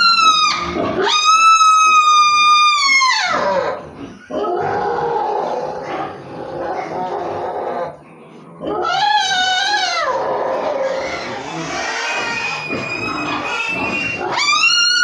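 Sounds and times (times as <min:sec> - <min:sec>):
pig squealing: 0:00.0 - 0:08.0, 0:08.6 - 0:15.0.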